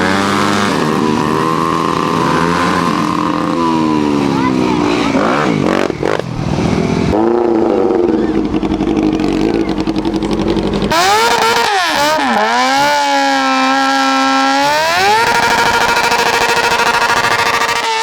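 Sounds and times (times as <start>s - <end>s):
high-pitched engine revving: 0.0s - 18.0s
motorcycle engines running: 0.0s - 18.0s.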